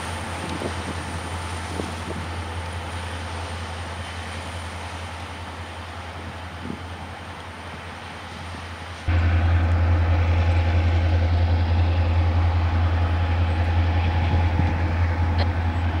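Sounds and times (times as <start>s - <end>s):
diesel locomotive engines droning: 0.0s - 16.0s.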